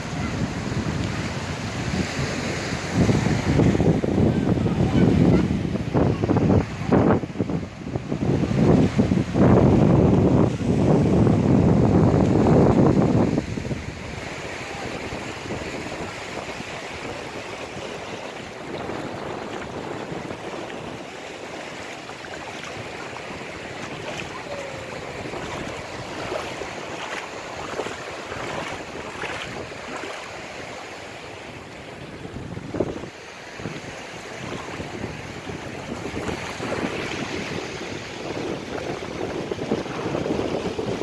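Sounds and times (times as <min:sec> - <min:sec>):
small waves washing onto shore: 0:00.0 - 0:41.0
wind buffeting microphone: 0:00.0 - 0:41.0.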